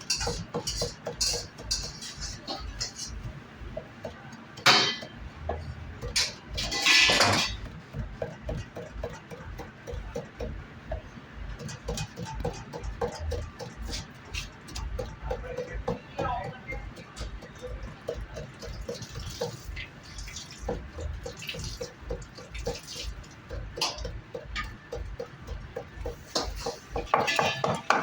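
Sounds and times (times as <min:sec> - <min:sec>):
utensils and dishes clinking: 0:00.0 - 0:10.4, 0:11.6 - 0:28.0.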